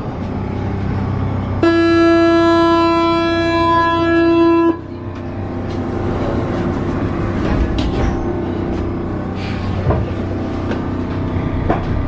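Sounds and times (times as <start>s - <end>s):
low rumble of train: 0.0s - 12.0s.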